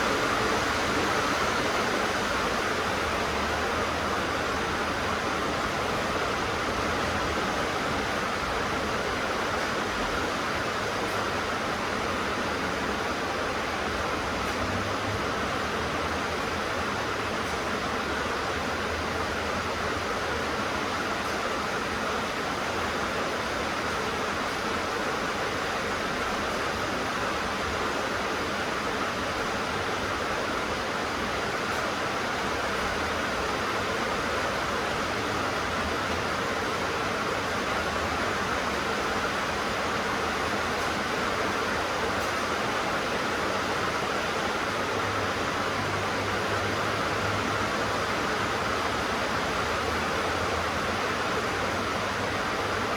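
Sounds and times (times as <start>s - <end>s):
heavy rain on a tin roof: 0.0s - 52.9s.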